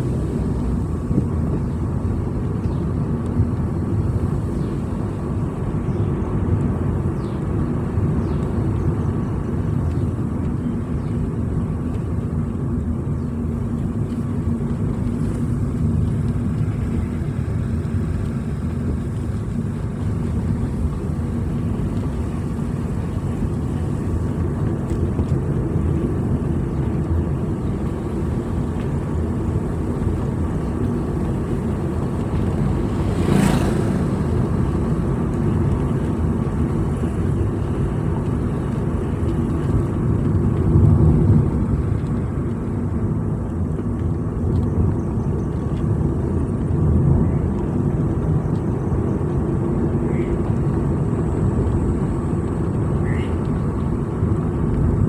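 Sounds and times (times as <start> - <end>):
vehicle driving on road: 0.0 - 55.0.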